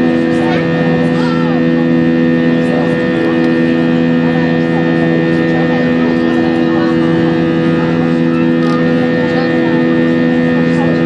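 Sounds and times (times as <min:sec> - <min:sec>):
jet engine drone in cabin: 0:00.0 - 0:11.0.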